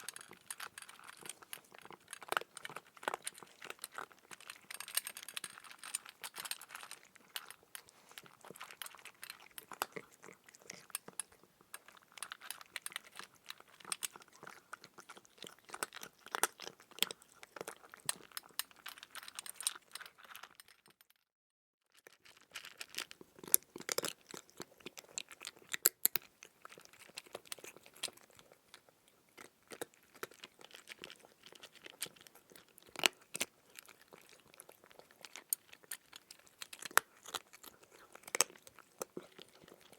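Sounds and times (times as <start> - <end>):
crunchy chewing: 0.0 - 20.9, 22.0 - 39.9.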